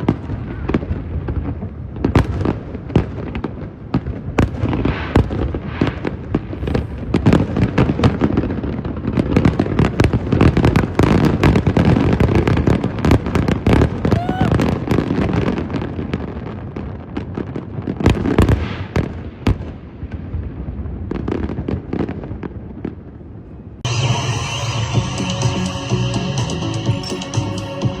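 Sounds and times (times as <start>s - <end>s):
fireworks bangs and crackling pops: 0.0s - 23.9s.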